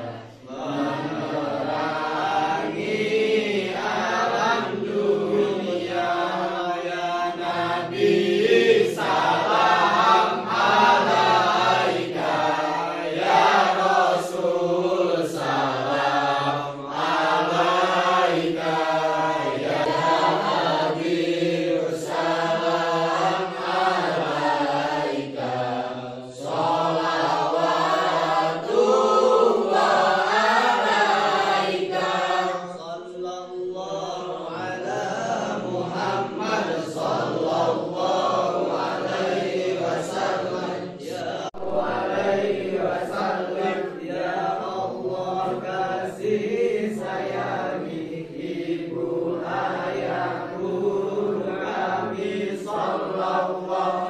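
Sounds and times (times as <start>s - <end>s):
group chanting in unison: 0.0s - 54.0s.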